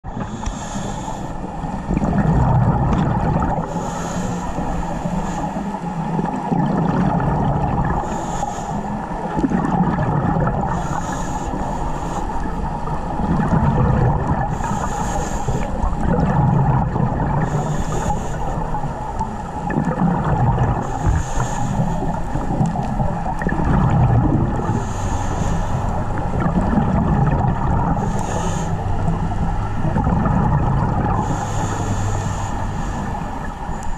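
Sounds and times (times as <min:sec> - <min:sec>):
exhaled bubbles underwater: 0:00.0 - 0:33.9
underwater rush: 0:00.0 - 0:33.9.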